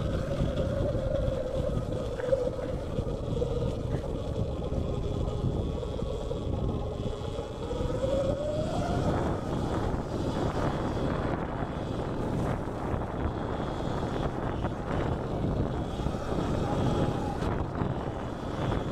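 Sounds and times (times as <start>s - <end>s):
electric motor whining: 0.0s - 18.9s
tyre and suspension noise: 0.0s - 18.9s
wind rumble on microphone: 0.0s - 18.9s.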